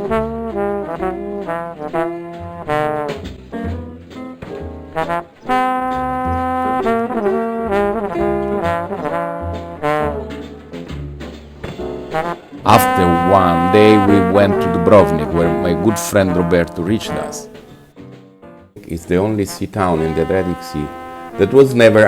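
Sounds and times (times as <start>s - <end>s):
bass line: 0.0s - 17.8s, 18.8s - 22.0s
brass music: 0.0s - 17.9s, 18.8s - 22.0s.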